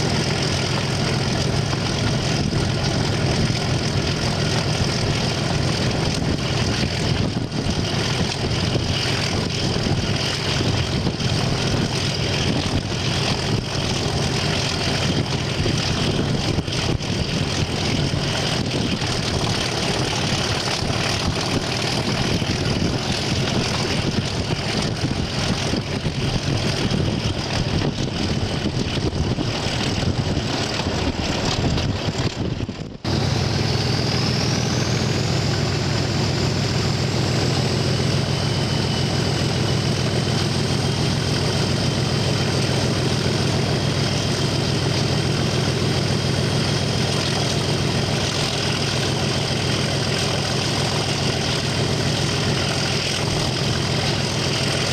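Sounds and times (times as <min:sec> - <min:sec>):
diesel locomotive engine running: 0:00.0 - 0:54.9
wind noise: 0:00.0 - 0:54.9.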